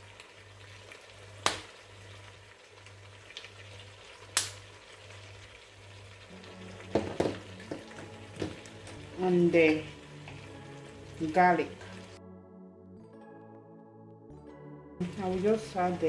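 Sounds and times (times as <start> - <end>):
potatoes sizzling in a pot: 0.0 - 12.2, 15.0 - 16.0.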